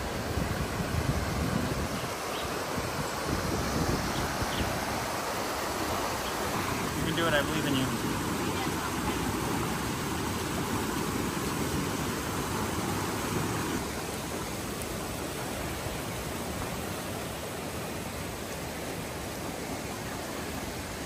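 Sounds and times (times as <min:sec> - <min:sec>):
water rushing over rocks: 0:00.0 - 0:21.0.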